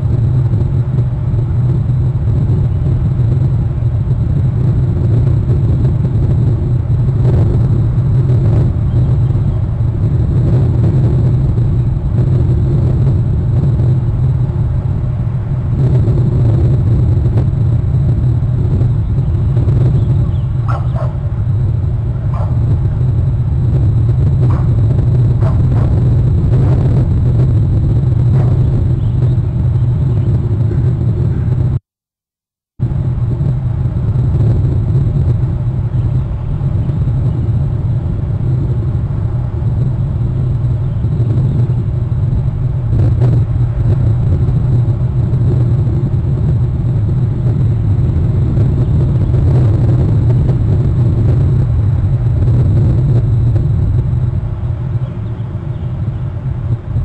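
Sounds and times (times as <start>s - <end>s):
wind rumbling on microphone: 0.0s - 31.8s, 32.8s - 57.0s.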